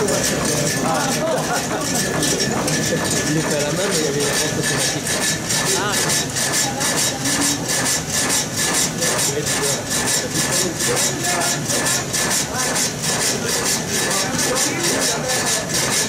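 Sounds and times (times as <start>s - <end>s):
frame saw cutting through log: 0.0s - 16.0s.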